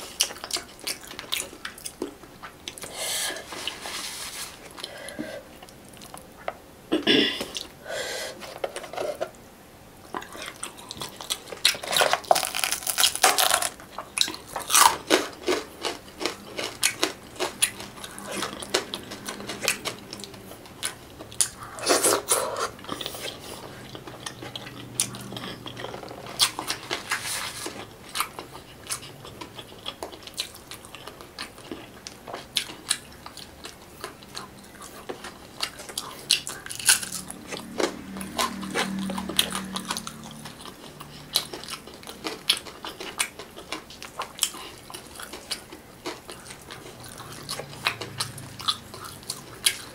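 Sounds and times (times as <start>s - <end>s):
chewing and crunching fried fish: 0.0s - 4.0s, 10.1s - 49.9s.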